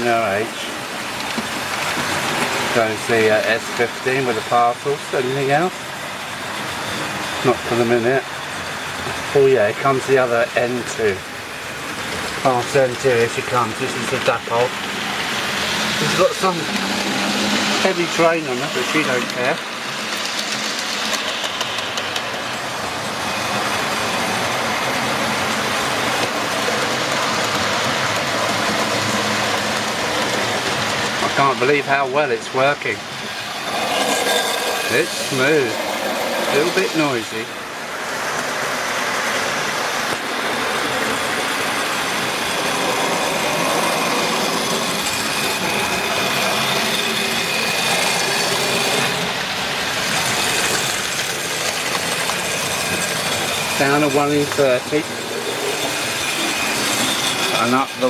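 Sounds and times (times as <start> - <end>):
model train rumbling on track: 0.0 - 58.0.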